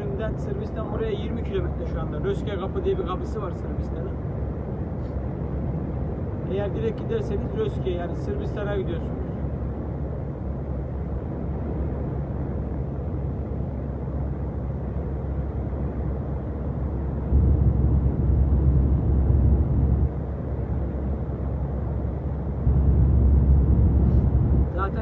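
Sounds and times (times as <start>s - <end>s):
road noise in cab: 0.0s - 25.0s
truck engine drone: 0.0s - 25.0s.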